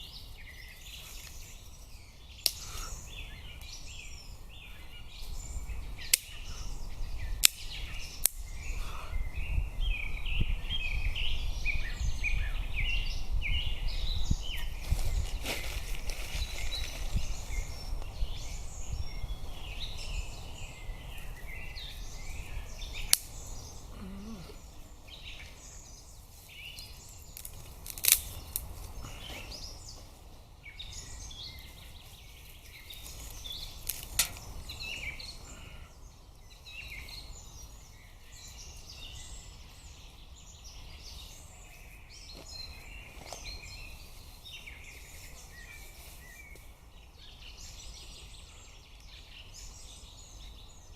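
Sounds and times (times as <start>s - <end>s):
forest birds singing and chirping: 0.0s - 50.9s.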